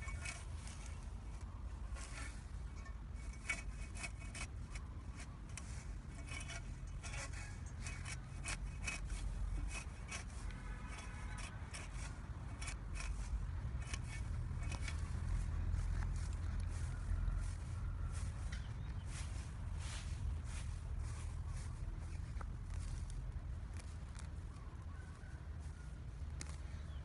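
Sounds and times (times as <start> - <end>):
grass rustling and scraping: 0.0 - 27.0.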